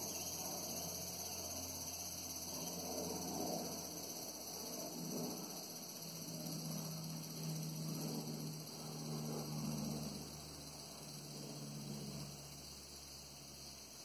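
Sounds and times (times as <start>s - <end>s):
distant helicopter droning: 0.0s - 13.9s.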